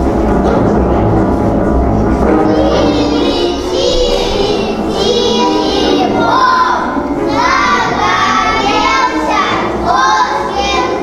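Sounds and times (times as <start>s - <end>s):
backing music: 0.0s - 11.0s
children singing: 1.9s - 11.0s.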